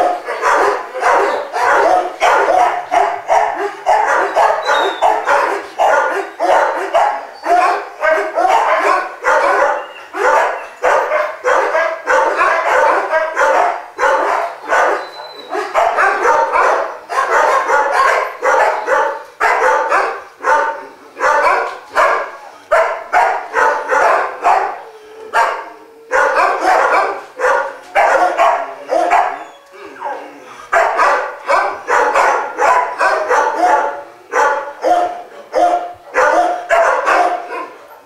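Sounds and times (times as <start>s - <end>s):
pack of dogs barking: 0.0s - 38.0s.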